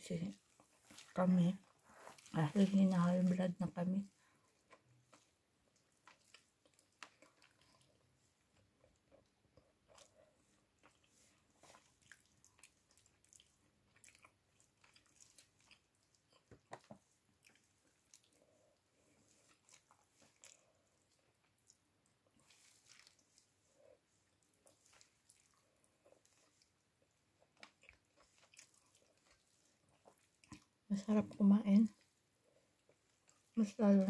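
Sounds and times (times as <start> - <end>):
person chewing food: 0.3 - 2.4, 4.1 - 30.9, 31.9 - 33.6.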